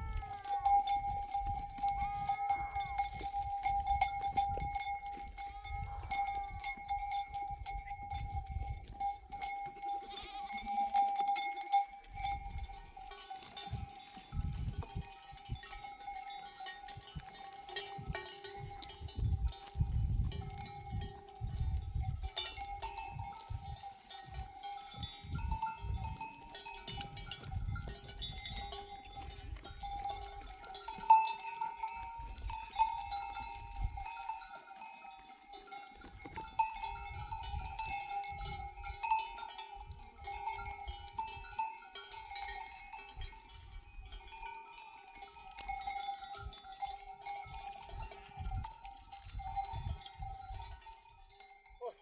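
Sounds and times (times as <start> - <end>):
sheep bells clanking: 0.0 - 52.0.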